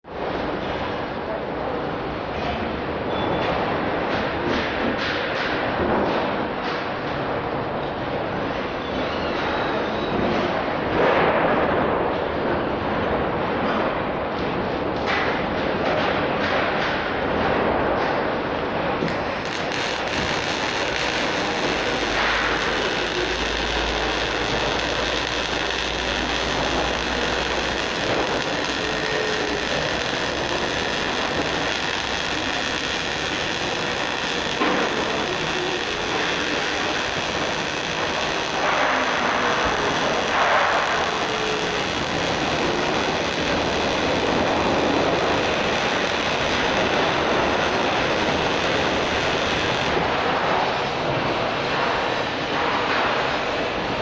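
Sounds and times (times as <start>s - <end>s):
workshop mechanical noise: 0.1s - 54.0s.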